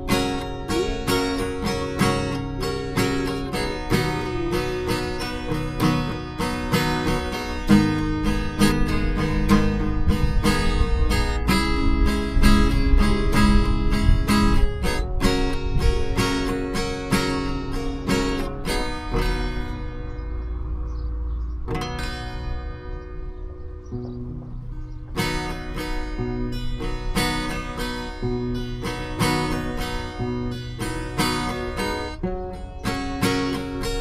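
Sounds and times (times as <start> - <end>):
acoustic guitar strumming and plucking: 0.0 - 34.0.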